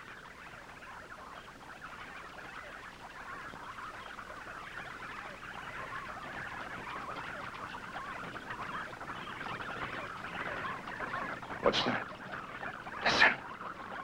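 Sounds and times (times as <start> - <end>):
bats squeaking and chittering: 0.1 - 14.0.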